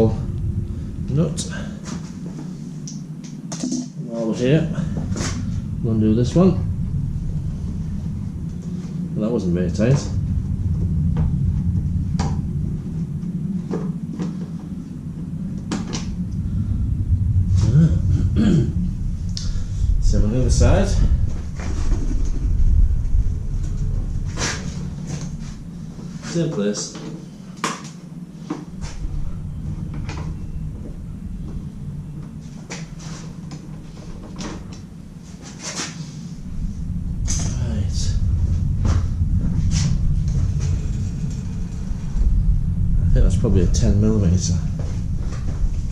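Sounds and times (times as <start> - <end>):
steady low rumble: 0.0 - 45.9.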